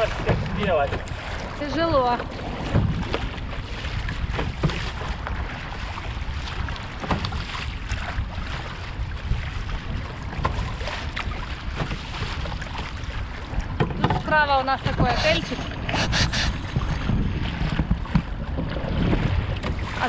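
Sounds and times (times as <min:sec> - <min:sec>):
paddles splashing in water: 0:00.0 - 0:20.0
water sloshing around canoe: 0:00.0 - 0:20.0
wind buffeting microphone: 0:00.0 - 0:20.0.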